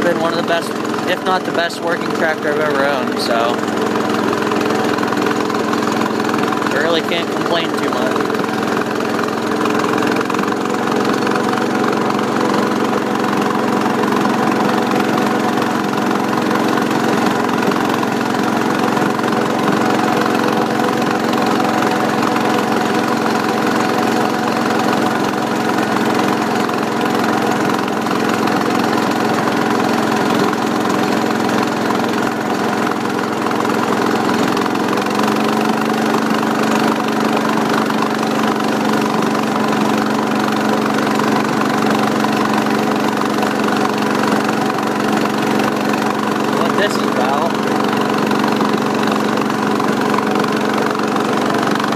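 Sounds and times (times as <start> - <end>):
garden tractor engine running: 0.0 - 51.9.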